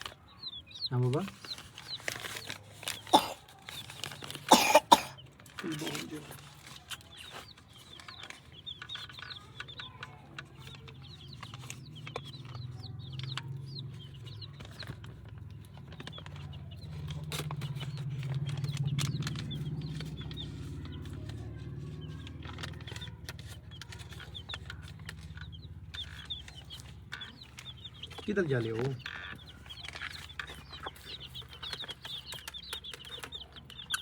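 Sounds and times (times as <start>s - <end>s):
chicks peeping: 0.0s - 34.0s
hens clucking: 0.0s - 34.0s.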